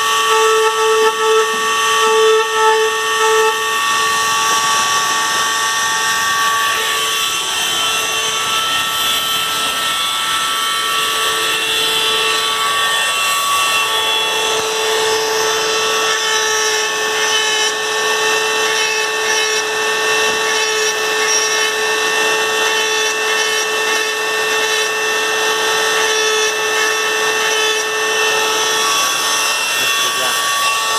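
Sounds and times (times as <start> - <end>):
rotary engraving tool whining: 0.0 - 30.9.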